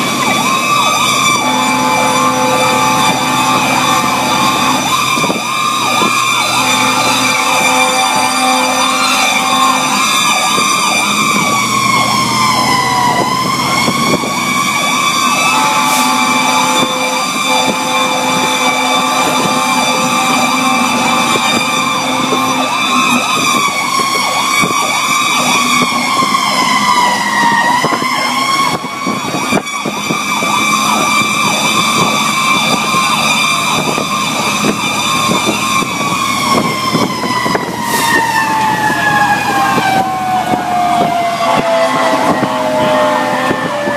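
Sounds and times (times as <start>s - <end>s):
faster warbling siren: 0.0s - 43.9s
fire engine siren wailing: 0.0s - 43.9s.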